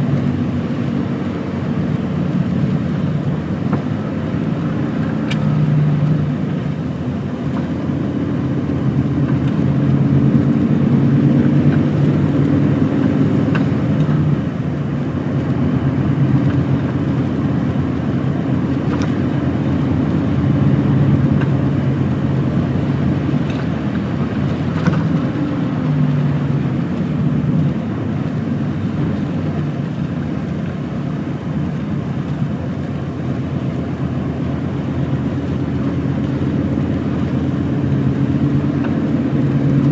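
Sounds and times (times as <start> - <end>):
diesel engine running: 0.0 - 39.9
road noise: 0.0 - 39.9.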